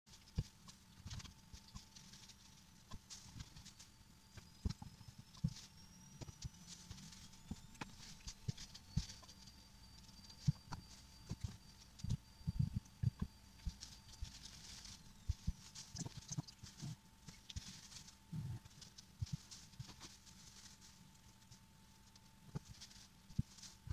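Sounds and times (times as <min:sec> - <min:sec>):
faint steady tone: 0:00.1 - 0:23.9.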